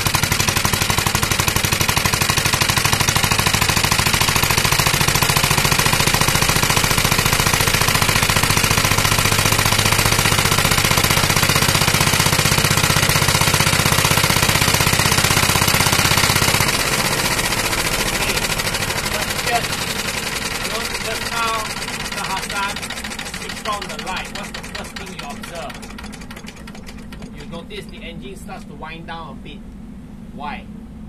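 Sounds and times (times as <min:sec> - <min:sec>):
piston engine hammering: 0:00.0 - 0:29.2.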